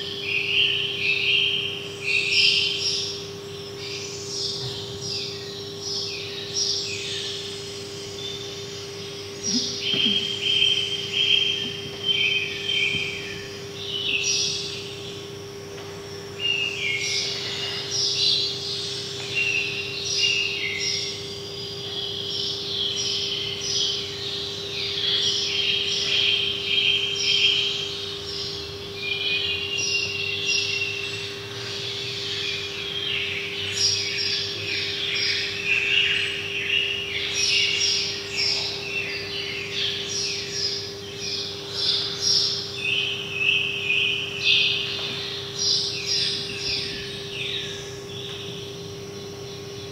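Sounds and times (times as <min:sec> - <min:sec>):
birds chirping: 0:00.0 - 0:49.9
steady low hum: 0:00.0 - 0:49.9.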